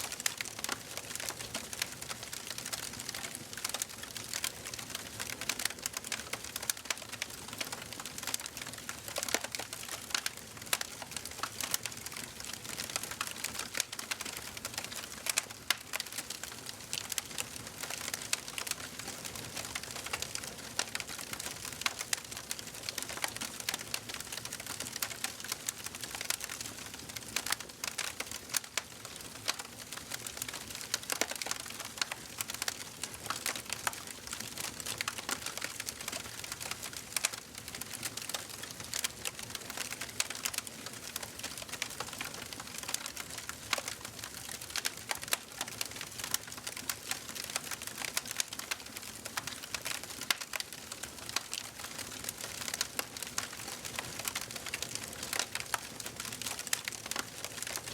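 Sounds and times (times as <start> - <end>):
fireplace fire crackling: 0.0 - 57.9.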